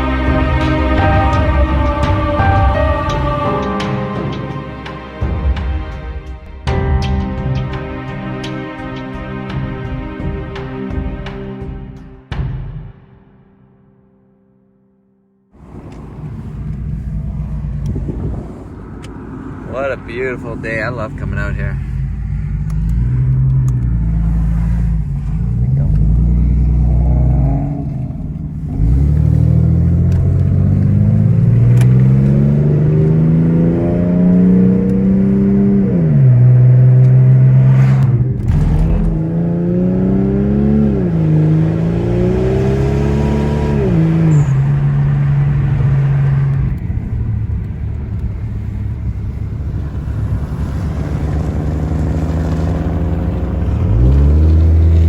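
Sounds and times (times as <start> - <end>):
car engine accelerating: 0.0 - 11.8, 15.6 - 55.0.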